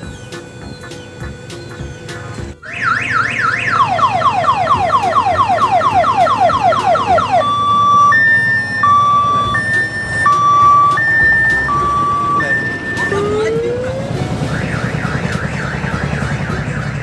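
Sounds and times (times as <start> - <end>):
diesel engine running: 0.0 - 17.0
electronic multi-tone siren: 0.0 - 17.0.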